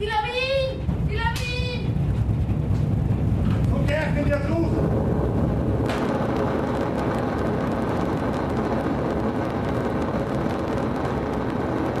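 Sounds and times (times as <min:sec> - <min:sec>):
avalanche rumbling: 0:00.0 - 0:12.0.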